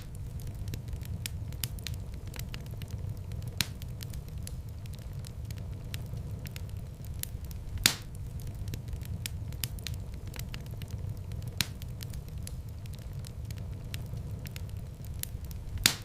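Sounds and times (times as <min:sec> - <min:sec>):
fire crackling and popping: 0:00.0 - 0:16.0
low fire rumble: 0:00.0 - 0:16.0.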